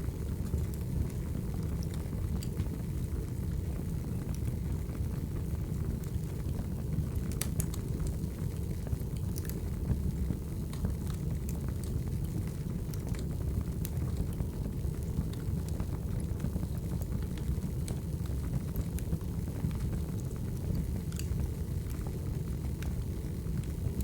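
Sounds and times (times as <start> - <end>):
wood fire crackling: 0.1 - 24.0.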